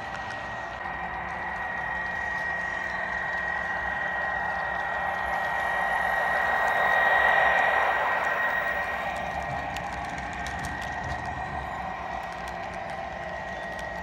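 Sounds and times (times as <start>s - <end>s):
model locomotive high whine: 0.0s - 14.0s
model train clicking over rails: 0.0s - 14.0s.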